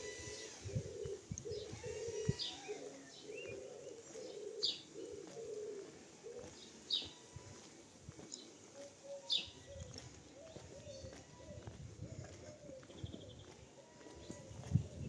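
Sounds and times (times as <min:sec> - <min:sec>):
pigeons cooing: 0:00.0 - 0:07.7, 0:08.4 - 0:15.0.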